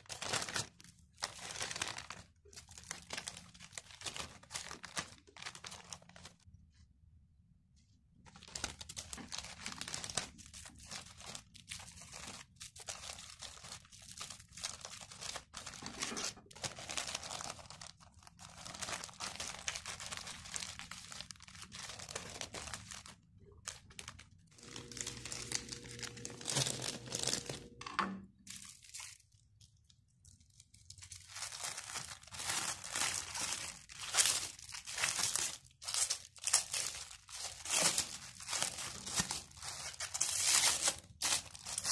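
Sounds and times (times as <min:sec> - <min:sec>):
plastic bag and cling film crinkling: 0:00.0 - 0:06.8, 0:08.2 - 0:27.8, 0:28.4 - 0:41.9.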